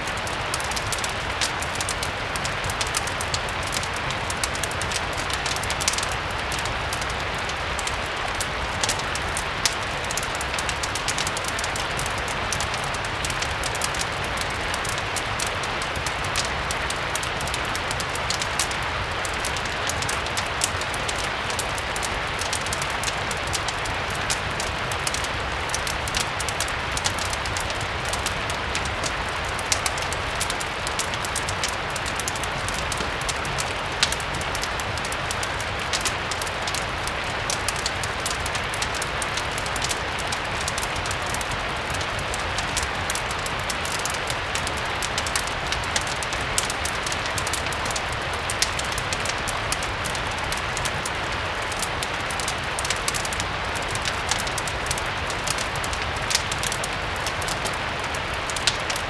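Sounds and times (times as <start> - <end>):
fireplace crackling: 0.0 - 59.0
steady rain: 0.0 - 59.0.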